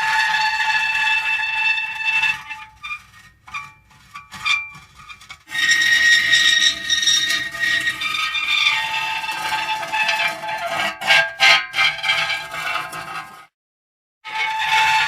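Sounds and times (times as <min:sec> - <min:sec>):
metal creaking and squealing: 0:00.0 - 0:13.4, 0:14.3 - 0:15.0.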